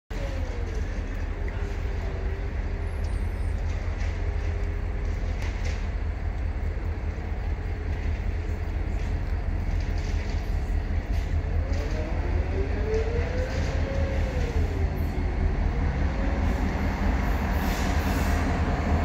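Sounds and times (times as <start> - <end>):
street traffic rumble: 0.1 - 19.0.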